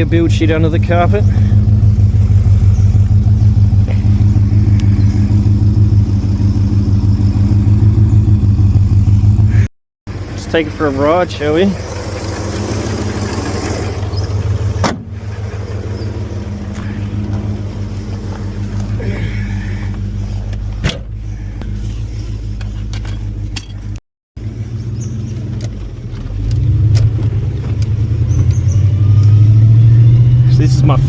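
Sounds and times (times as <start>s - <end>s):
car engine running at low revs: 0.0s - 31.0s.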